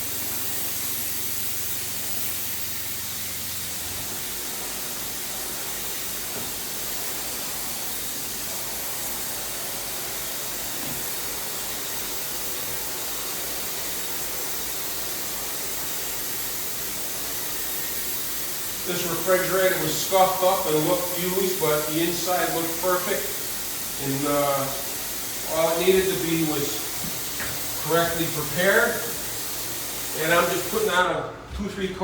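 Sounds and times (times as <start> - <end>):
spray gun hissing: 0.0 - 32.0.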